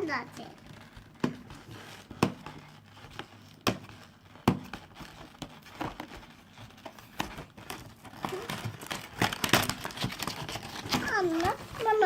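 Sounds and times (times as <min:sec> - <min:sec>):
faint rustling: 0:00.0 - 0:12.0
packaging knocks and clicks: 0:00.4 - 0:12.0.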